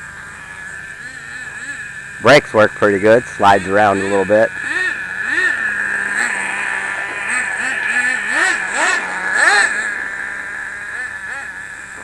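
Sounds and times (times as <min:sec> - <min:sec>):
small two-stroke engine buzzing: 0:00.0 - 0:12.0.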